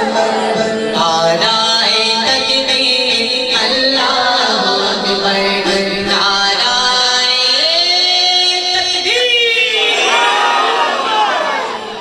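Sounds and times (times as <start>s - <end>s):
man singing unaccompanied: 0.0s - 10.1s.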